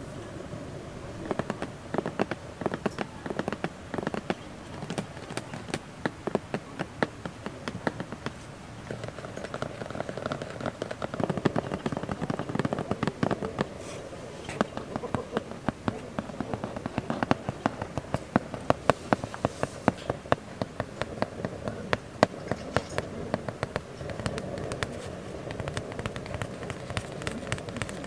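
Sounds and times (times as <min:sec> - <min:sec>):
fingers tapping cardboard box: 0:01.2 - 0:13.8, 0:14.5 - 0:28.0
scratching on cardboard: 0:01.2 - 0:28.0.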